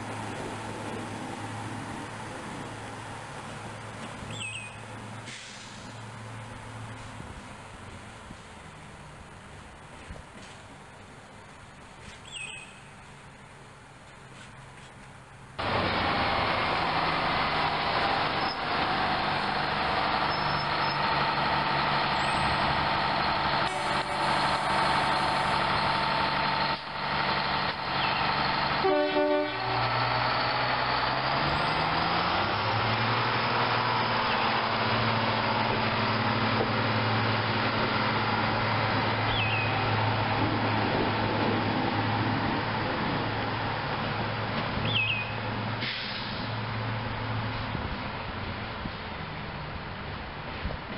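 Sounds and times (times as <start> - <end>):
railcar diesel engine running: 0.0 - 49.6.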